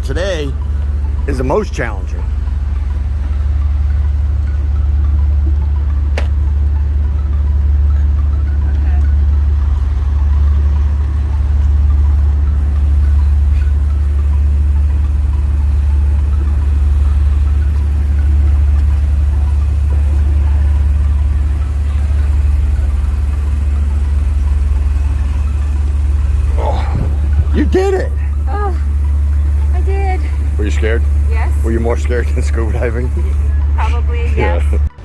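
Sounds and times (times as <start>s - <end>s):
boat engine idling: 0.0s - 35.0s.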